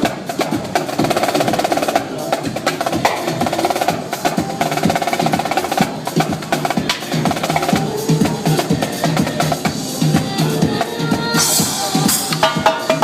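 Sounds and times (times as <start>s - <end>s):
electronic dance music: 0.0s - 13.0s
fast drum stick patterns: 0.0s - 13.0s.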